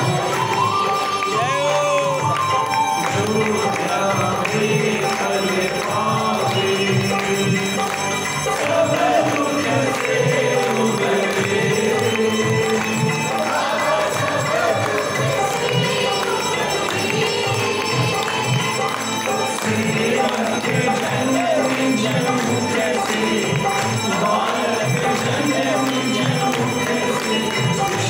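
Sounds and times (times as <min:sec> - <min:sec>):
jingling hand percussion: 0:00.0 - 0:28.0
ringing bells: 0:00.0 - 0:28.0
voices singing a hymn: 0:00.0 - 0:28.0.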